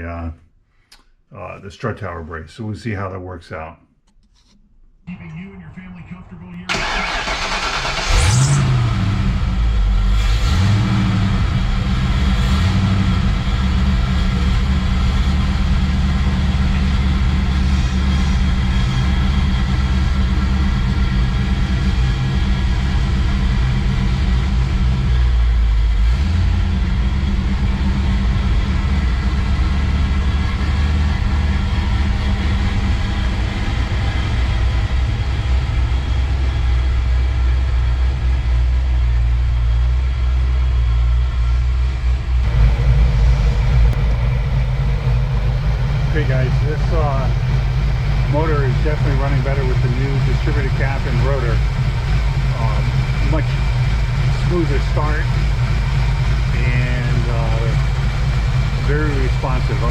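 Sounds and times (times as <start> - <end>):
car engine idling: 5.1 - 59.9
car engine starting and revving: 6.7 - 59.9.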